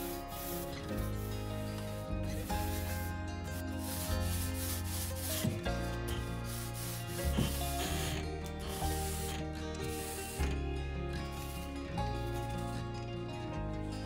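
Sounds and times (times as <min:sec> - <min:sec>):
foam roller rubbing hiss: 0:00.0 - 0:10.6, 0:11.2 - 0:12.6
background music: 0:00.0 - 0:14.0.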